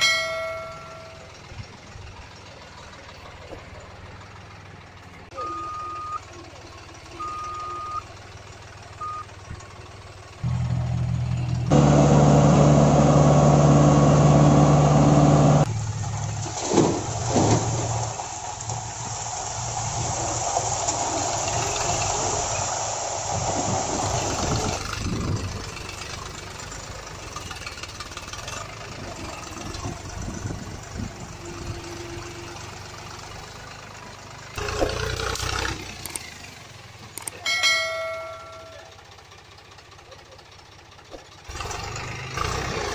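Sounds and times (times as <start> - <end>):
truck engine: 0.0 - 42.9.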